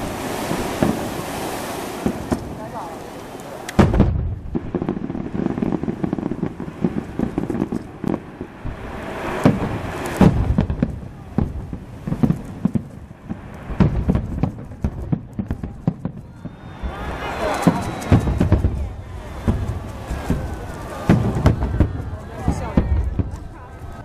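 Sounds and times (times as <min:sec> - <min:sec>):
fireworks booming and crackling: 0:00.0 - 0:24.0.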